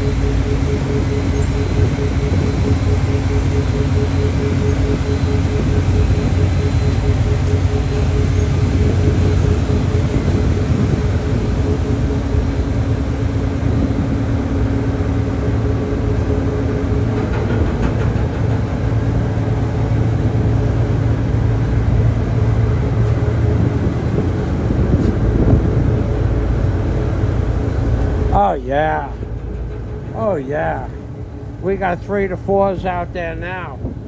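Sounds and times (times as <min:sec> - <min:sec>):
ferry engines droning: 0:00.0 - 0:34.0.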